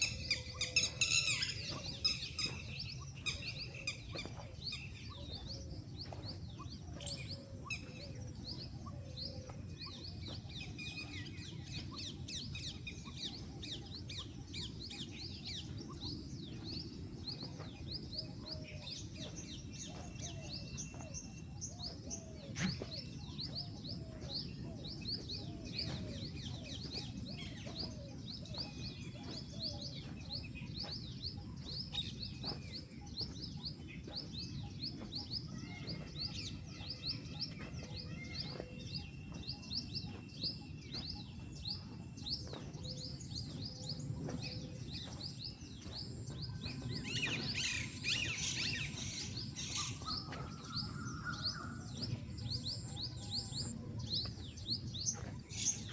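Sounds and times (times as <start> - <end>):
songbirds chirping: 0.0 - 55.9.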